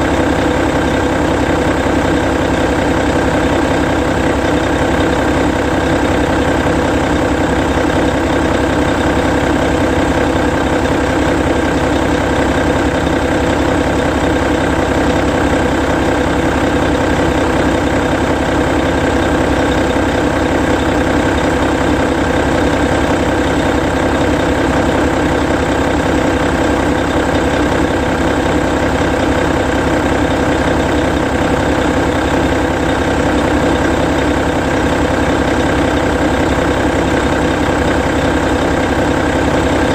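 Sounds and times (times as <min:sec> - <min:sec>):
diesel bus engine idling: 0:00.0 - 0:39.9.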